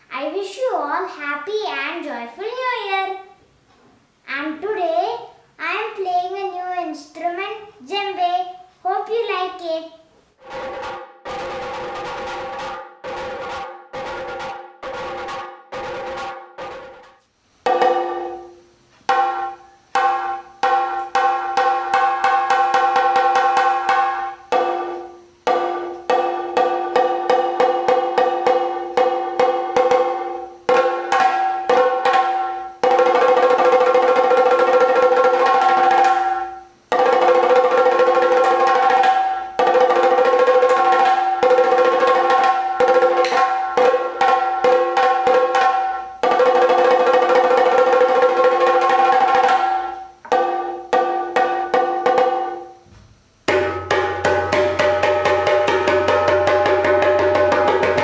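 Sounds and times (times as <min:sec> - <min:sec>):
drum struck with sticks: 0:10.4 - 0:58.0.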